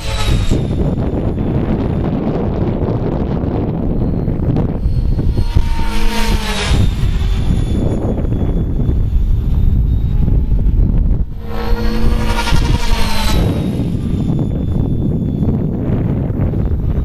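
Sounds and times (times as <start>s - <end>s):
rc helicopter rotor and motor whine: 0.0s - 17.0s
steady low rumble: 0.0s - 17.0s.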